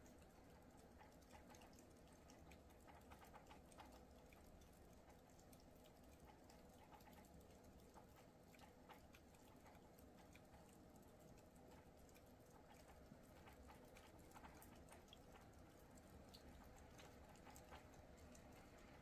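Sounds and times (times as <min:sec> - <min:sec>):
soft ticks: 0:00.0 - 0:19.0.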